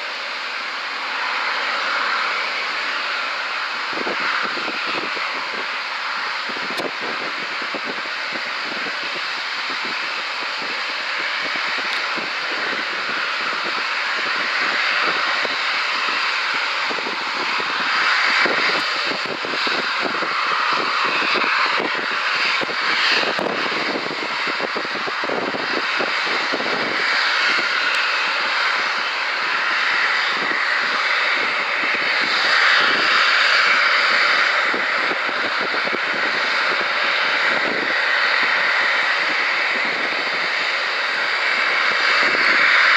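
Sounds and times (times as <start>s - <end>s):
jet engine roar: 0.0s - 42.9s.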